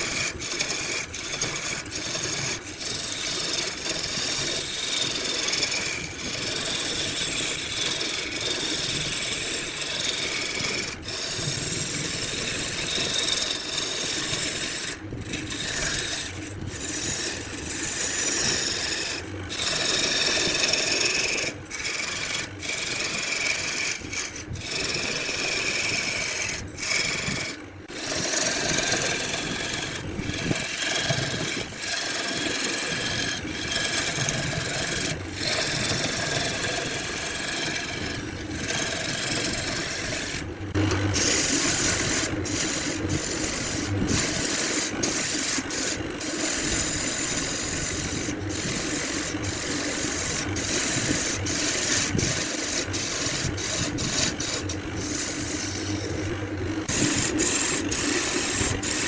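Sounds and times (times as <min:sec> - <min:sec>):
tool scraping wood on lathe: 0:00.0 - 0:59.0.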